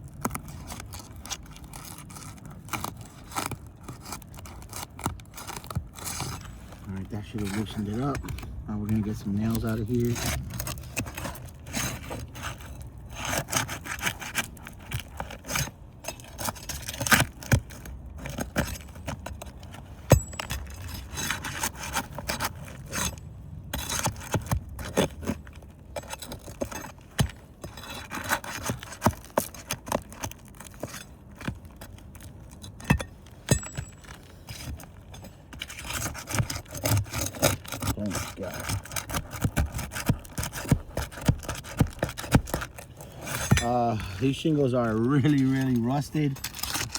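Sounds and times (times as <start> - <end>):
pry bar scraping roof shingles: 0.0 - 46.9.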